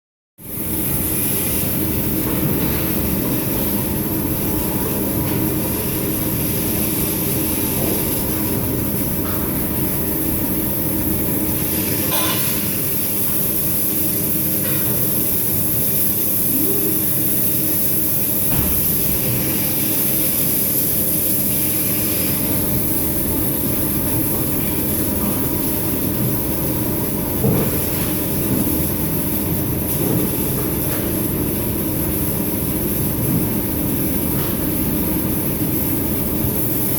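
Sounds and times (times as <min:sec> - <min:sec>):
machinery hum: 0:00.4 - 0:36.9
waterjet cutter hissing: 0:00.4 - 0:36.9.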